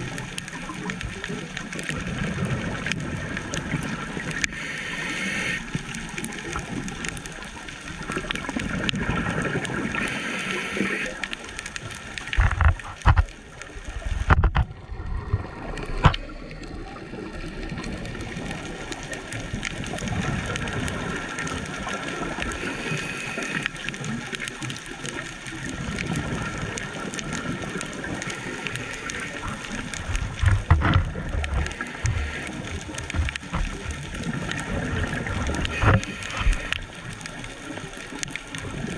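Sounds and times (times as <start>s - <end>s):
muffled underwater hiss with bubbling: 0.0s - 38.9s.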